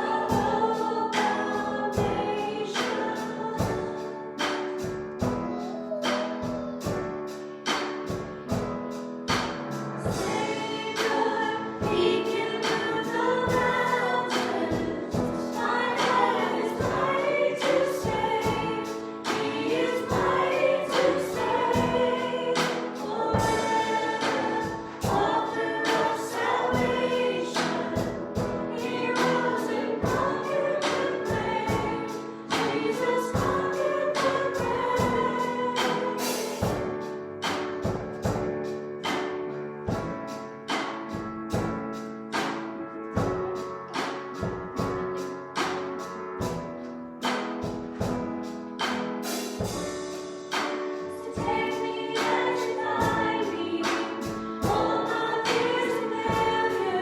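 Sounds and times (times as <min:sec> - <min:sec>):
band and singers performing: 0:00.0 - 0:39.2, 0:47.2 - 0:57.0
steady drum beat: 0:00.0 - 0:57.0.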